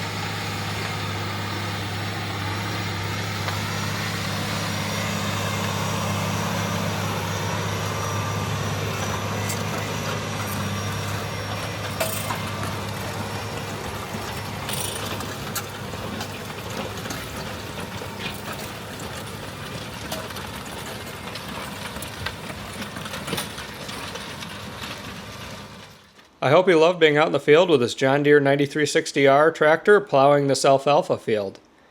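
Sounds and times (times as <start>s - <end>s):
tractor diesel engine running: 0.0s - 29.8s.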